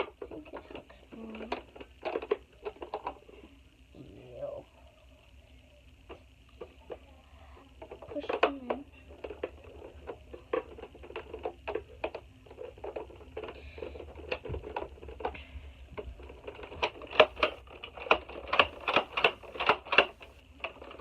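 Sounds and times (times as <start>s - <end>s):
plastic toy parts clicking: 0.0s - 3.3s, 6.1s - 15.4s, 16.0s - 21.0s.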